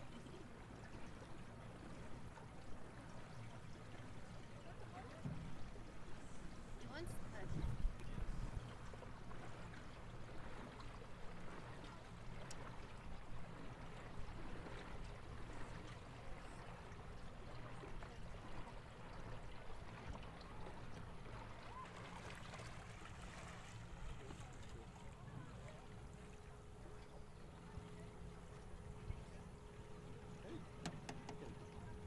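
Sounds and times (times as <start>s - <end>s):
low steady hum: 0.0s - 32.0s
water lapping along boat hull: 0.0s - 32.0s.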